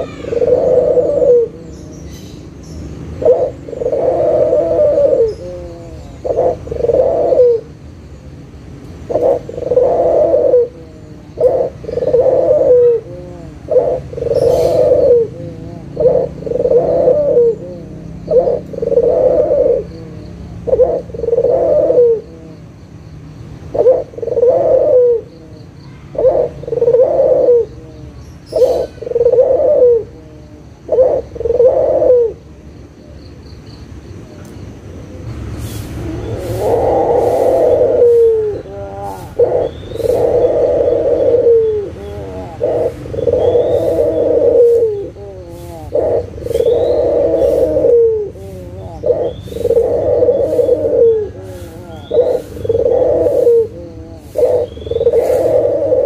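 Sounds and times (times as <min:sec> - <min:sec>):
dove cooing: 0:00.0 - 0:08.0, 0:09.0 - 0:33.2, 0:35.1 - 0:56.0.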